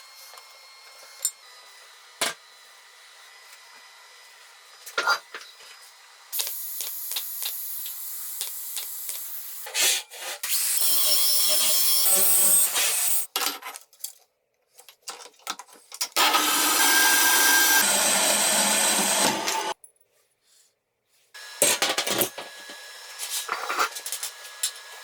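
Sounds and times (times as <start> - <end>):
tool cutting metal: 0.0 - 13.3, 16.2 - 19.8, 21.4 - 25.0.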